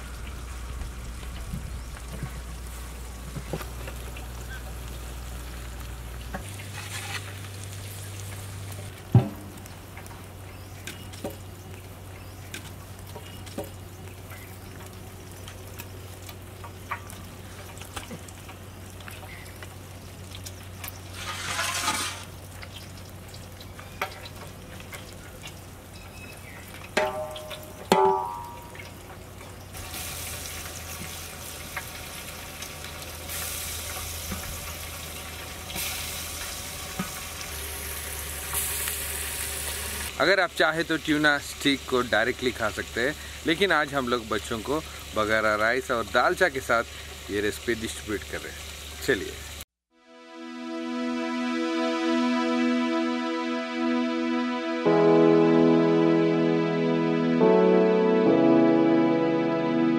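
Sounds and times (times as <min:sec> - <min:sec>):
fish frying in oil: 0:00.0 - 0:49.6.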